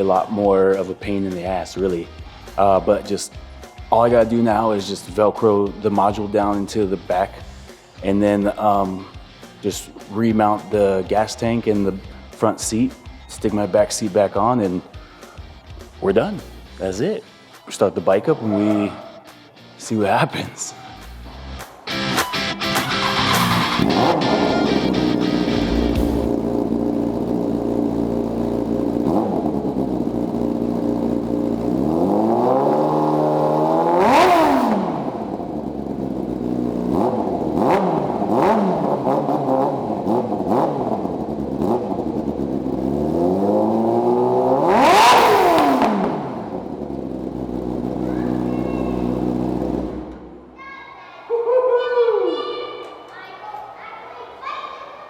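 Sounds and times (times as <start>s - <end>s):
motorcycle engine idling and revving: 0.0s - 17.0s, 23.0s - 50.6s.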